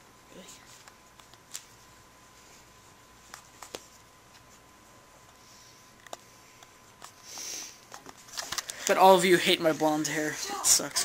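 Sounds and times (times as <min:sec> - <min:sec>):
faint steady electrical tone: 0:00.0 - 0:11.0.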